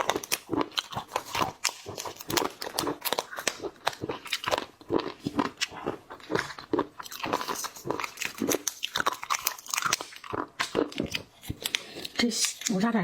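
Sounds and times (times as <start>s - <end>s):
person chewing crunchy seafood: 0.0s - 12.7s.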